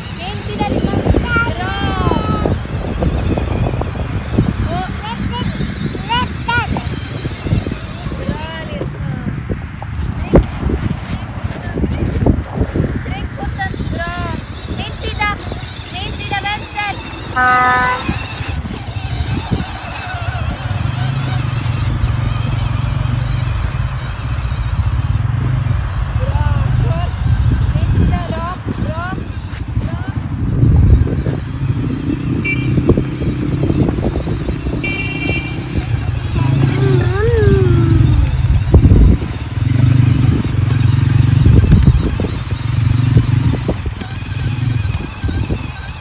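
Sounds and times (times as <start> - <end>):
quad bike engine rumbling: 0.0 - 46.0.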